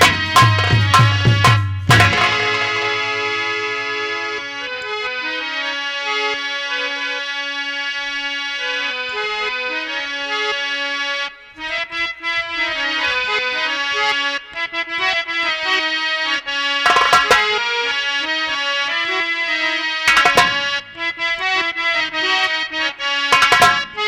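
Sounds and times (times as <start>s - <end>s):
harmonium melody: 0.0s - 24.0s.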